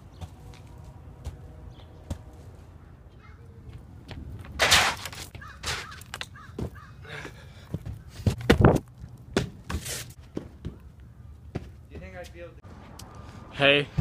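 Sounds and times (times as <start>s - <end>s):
feet thudding on ledges and sand: 0.0s - 2.6s, 3.6s - 12.5s.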